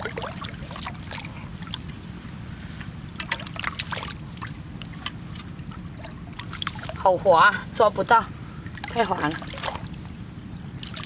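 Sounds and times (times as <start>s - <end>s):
low background rumble: 0.0s - 11.0s
water splashing and sloshing: 0.0s - 11.0s.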